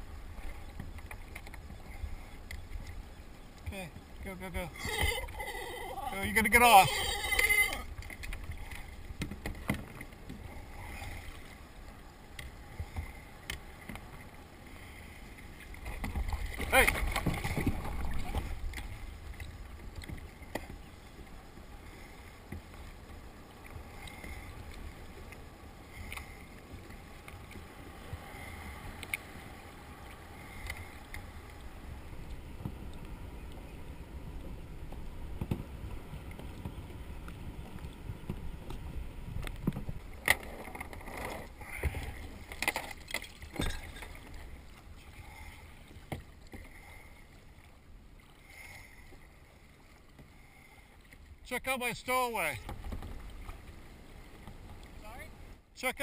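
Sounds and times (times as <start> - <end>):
low rumble of water: 0.0 - 56.0
paddle strokes splashing: 0.0 - 56.0.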